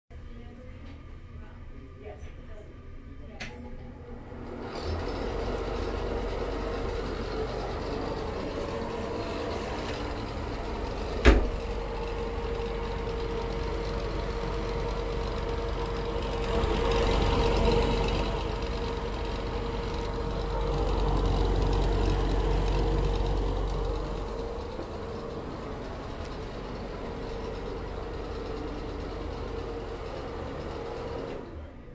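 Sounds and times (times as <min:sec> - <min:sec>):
exhaust fan humming and rattling: 0:00.2 - 0:31.9.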